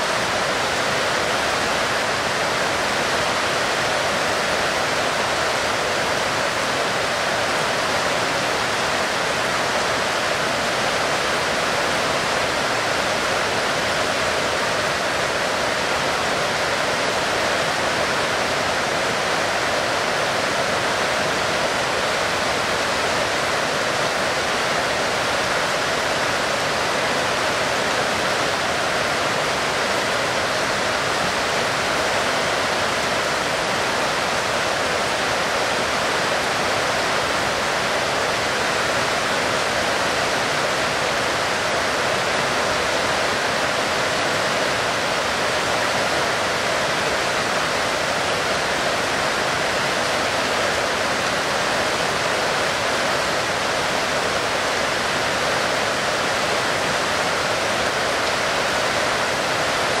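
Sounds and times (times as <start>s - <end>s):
heavy rain pouring: 0.0s - 60.0s.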